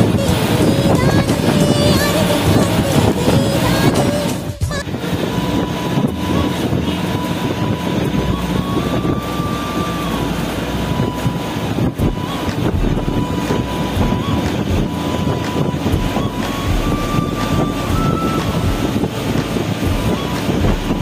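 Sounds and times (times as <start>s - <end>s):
bus engine and road rumble: 0.0s - 21.0s
thin steady whine: 0.0s - 21.0s.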